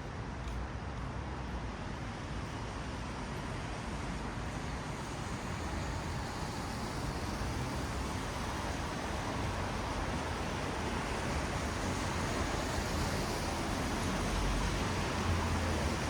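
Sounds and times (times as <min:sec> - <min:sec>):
tyres hissing on wet road: 0:01.7 - 0:16.0.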